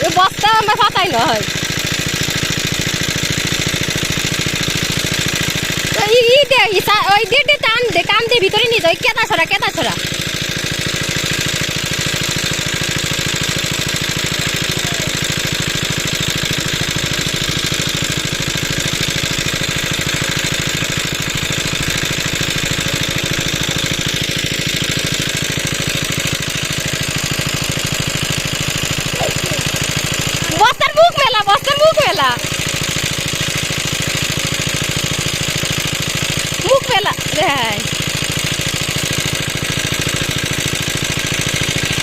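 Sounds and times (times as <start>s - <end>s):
small engine knocking: 0.0s - 42.0s.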